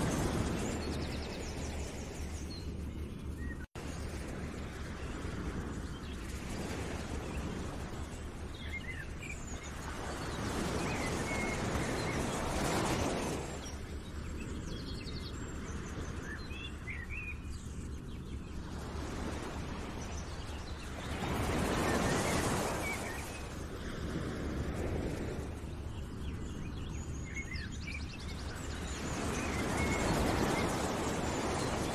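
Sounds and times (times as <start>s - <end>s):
birds chirping: 0.0s - 24.4s, 25.1s - 31.9s.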